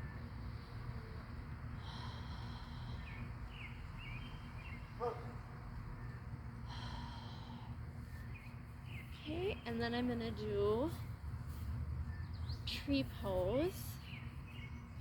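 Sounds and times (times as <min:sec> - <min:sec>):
low steady rumble: 0:00.0 - 0:15.0
birds chirping: 0:02.0 - 0:15.0.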